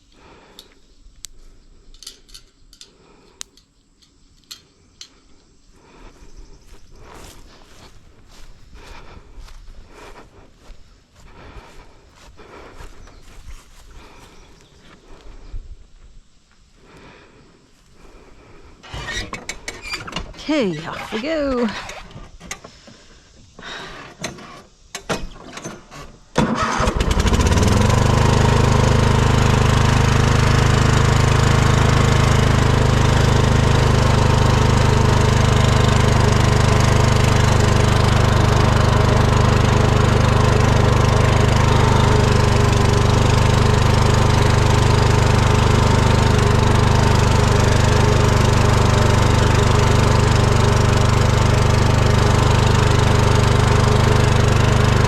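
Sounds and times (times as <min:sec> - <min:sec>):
small engine starting and running: 0:05.8 - 0:15.2, 0:18.0 - 0:55.0.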